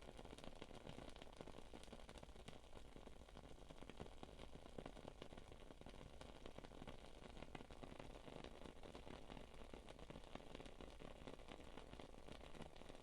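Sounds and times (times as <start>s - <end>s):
candle crackling and popping: 0.0s - 13.0s.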